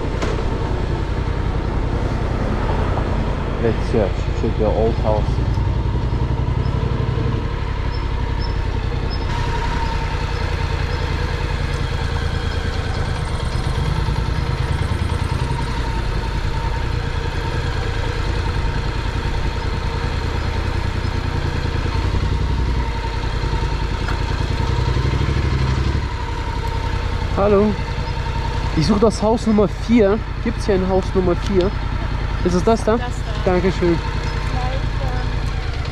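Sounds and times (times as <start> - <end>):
motorcycle engine idling low: 3.6 - 35.9.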